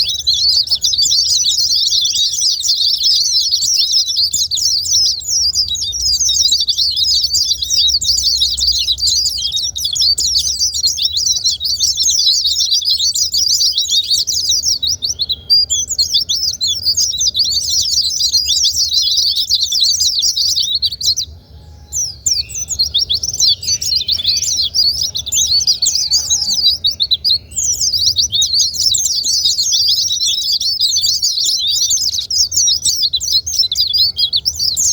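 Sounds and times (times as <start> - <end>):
birds twittering high chirps: 0.0 - 34.9.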